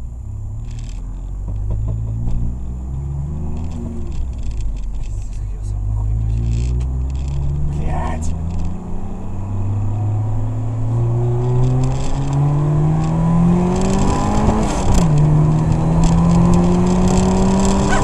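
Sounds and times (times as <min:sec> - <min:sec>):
turbocharged car engine accelerating: 0:00.0 - 0:18.0.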